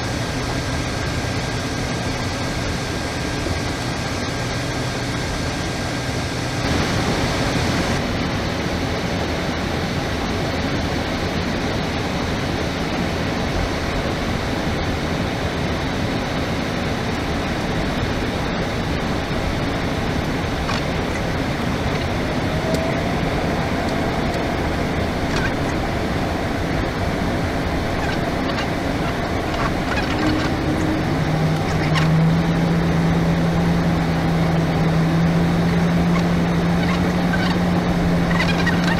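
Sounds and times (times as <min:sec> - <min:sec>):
rush of airflow: 0:00.0 - 0:36.6
engine and air-conditioning noise: 0:00.0 - 0:38.9.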